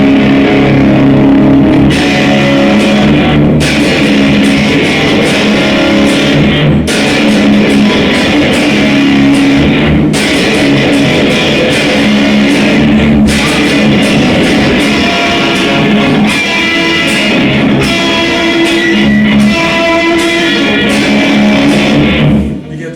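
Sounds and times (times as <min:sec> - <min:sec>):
electric guitar playing: 0:00.0 - 0:22.9.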